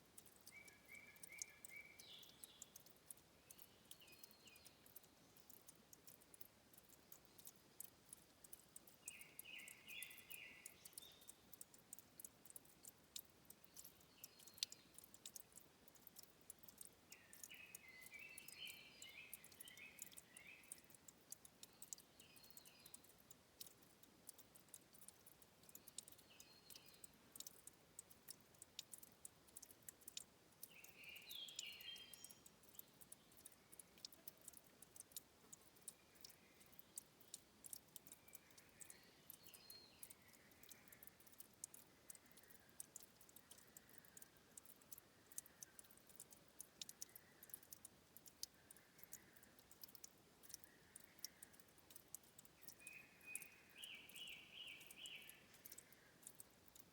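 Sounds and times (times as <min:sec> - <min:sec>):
water dripping: 0:00.0 - 0:56.9
bird chirping: 0:00.2 - 0:56.8.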